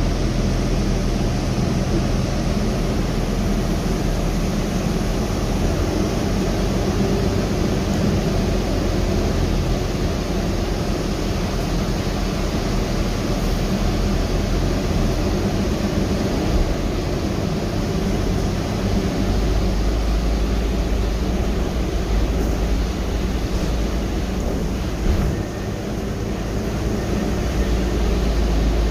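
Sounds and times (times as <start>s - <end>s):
bus cabin road noise: 0.0s - 28.9s.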